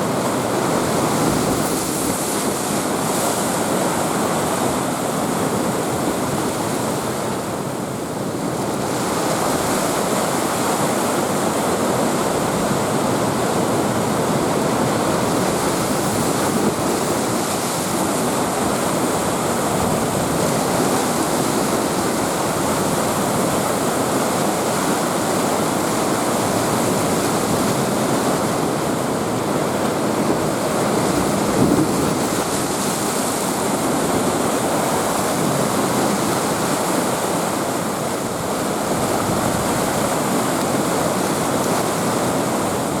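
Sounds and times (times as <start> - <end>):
heavy surf breaking: 0.0 - 43.0
wind on microphone: 0.0 - 43.0.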